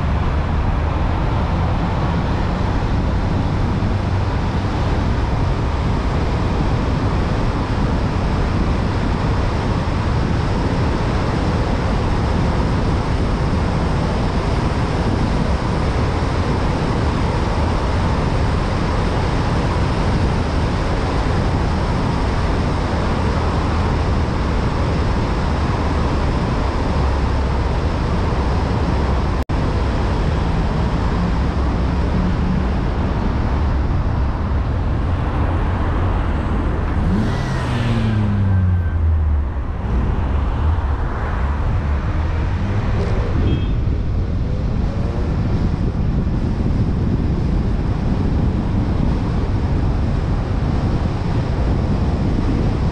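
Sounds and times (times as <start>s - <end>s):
car driving through tunnel: 0.0s - 52.9s.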